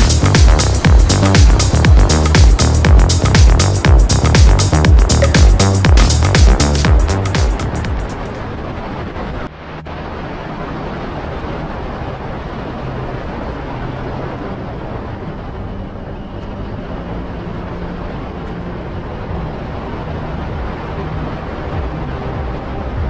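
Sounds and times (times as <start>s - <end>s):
wind noise: 0.0s - 23.0s.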